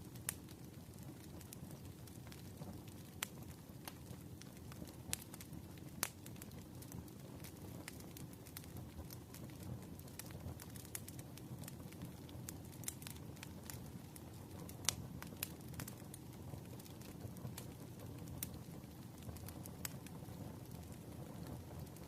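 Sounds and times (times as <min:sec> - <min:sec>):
fire crackling: 0:00.0 - 0:22.0.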